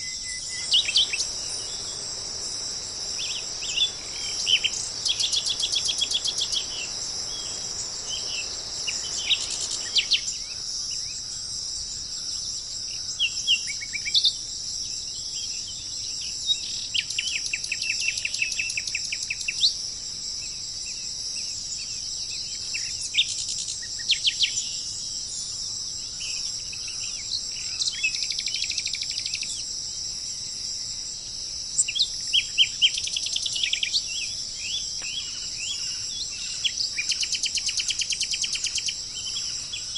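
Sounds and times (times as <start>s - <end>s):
insects droning: 0.0s - 39.9s
low background hiss: 0.0s - 39.9s
songbirds chirping and trilling: 0.0s - 39.9s.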